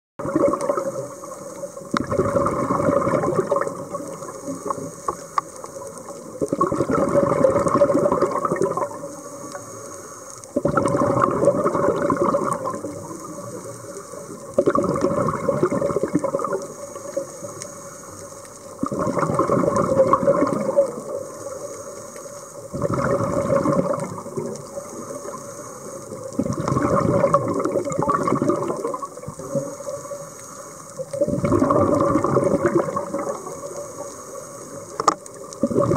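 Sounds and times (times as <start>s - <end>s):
diver exhaust bubbles gurgling: 0.2s - 9.6s, 10.5s - 17.6s, 18.6s - 21.7s, 22.6s - 30.3s, 30.9s - 35.9s.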